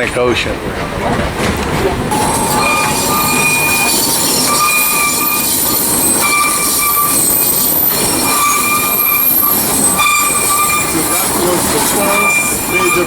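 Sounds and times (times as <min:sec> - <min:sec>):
train wheels rumbling on rail: 0:00.0 - 0:13.0
high-pitched wheel squeals: 0:02.1 - 0:13.0.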